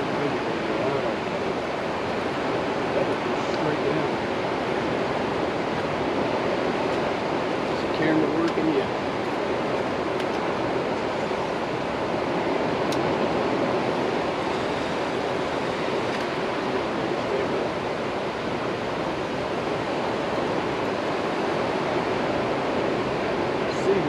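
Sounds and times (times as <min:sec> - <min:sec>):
water rushing through dam: 0:00.0 - 0:24.0.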